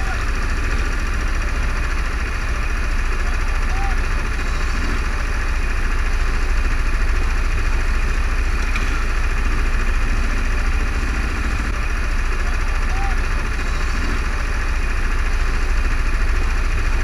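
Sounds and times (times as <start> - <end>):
go-kart engines idling: 0.0 - 17.0.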